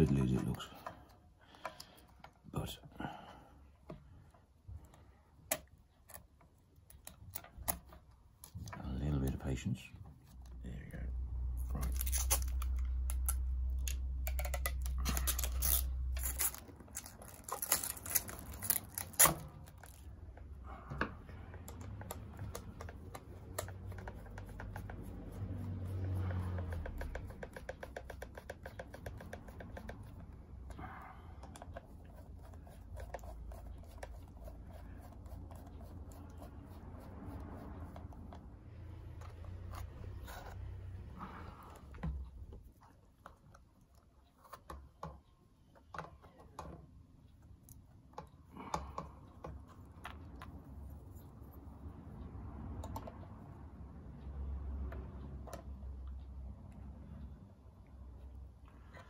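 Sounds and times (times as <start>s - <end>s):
clicks taps and scratches: 3.8s - 59.0s.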